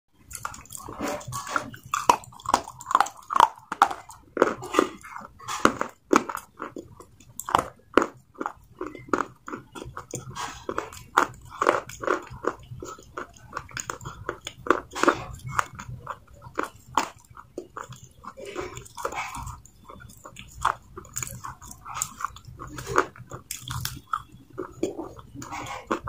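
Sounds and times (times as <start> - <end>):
crunchy chewing: 0.2 - 26.0.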